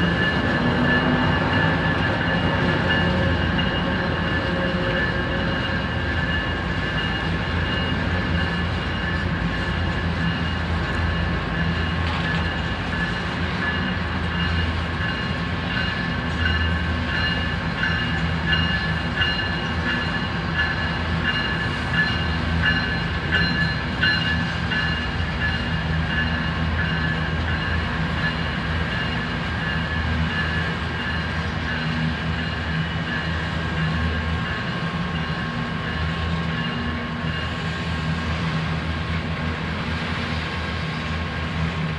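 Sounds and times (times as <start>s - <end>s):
crossing warning bell ringing: 0.0s - 41.9s
diesel locomotive rumble: 0.0s - 41.9s
train wheels clicking on rails: 0.0s - 41.9s.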